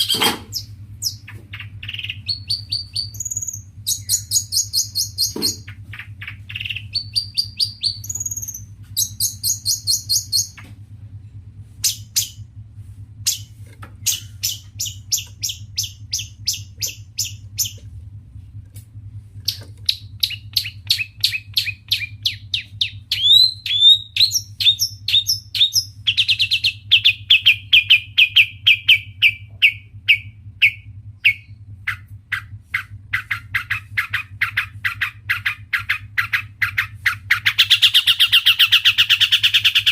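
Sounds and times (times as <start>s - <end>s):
bird singing chattering song: 0.0s - 10.7s, 11.8s - 12.5s, 13.2s - 17.8s, 19.4s - 39.9s
steady low hum: 0.0s - 39.9s.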